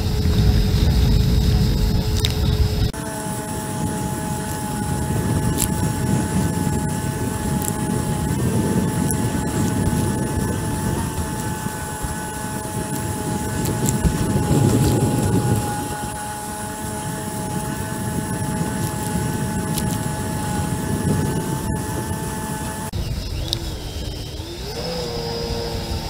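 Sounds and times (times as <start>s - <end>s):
jet ski engine whine: 0.0s - 26.0s
wind and water rushing: 0.0s - 26.0s.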